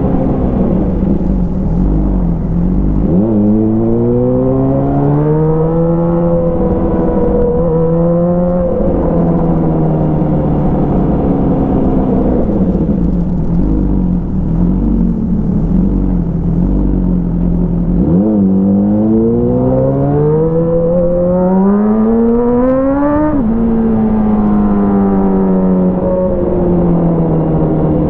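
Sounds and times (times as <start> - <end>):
motorcycle engine revving: 0.0 - 26.4.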